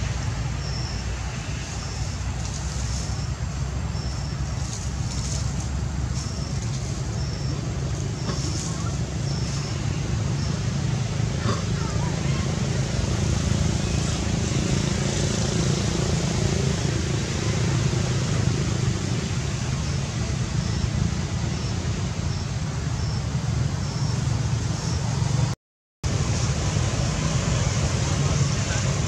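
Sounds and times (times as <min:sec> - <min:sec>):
low rumble with hiss: 0:00.0 - 0:29.0.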